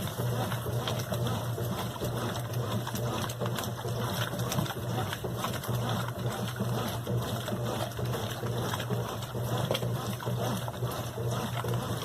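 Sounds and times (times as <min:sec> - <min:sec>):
washing machine motor hum: 0:00.0 - 0:12.0
water churning and splashing: 0:00.0 - 0:12.0.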